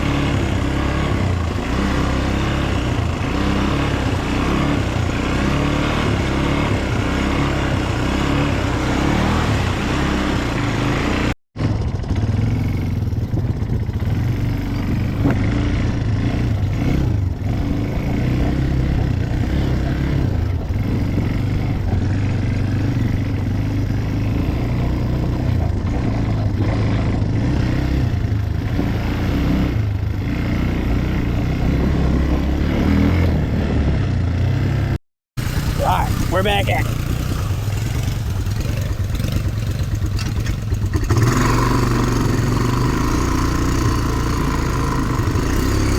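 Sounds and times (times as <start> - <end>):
atv engine running under load: 0.0 - 45.9.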